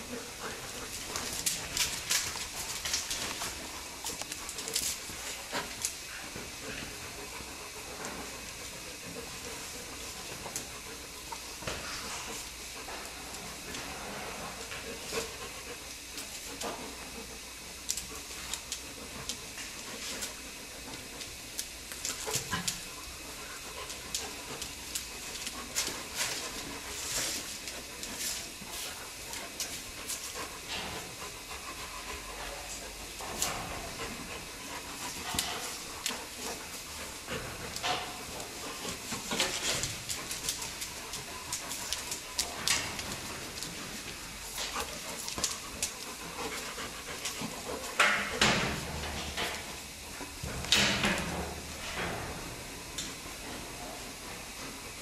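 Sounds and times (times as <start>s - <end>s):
bears panting and sniffing: 0.0s - 55.0s
steady hiss: 0.0s - 55.0s.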